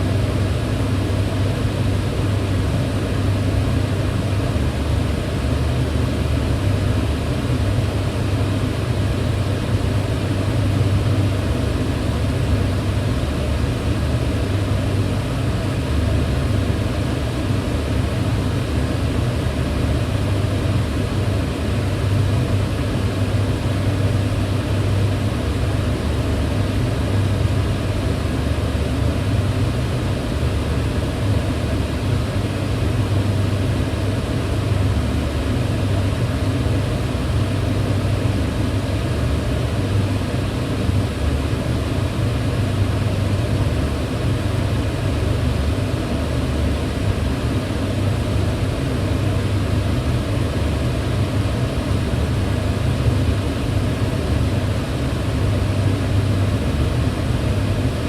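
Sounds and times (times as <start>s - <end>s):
range hood fan humming: 0.0s - 58.0s.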